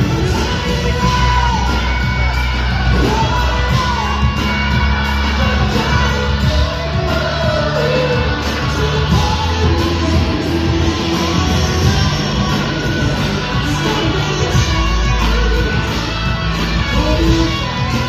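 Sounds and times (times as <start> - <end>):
band playing: 0.0 - 18.0
person singing live: 0.0 - 18.0
steady bass: 0.0 - 18.0.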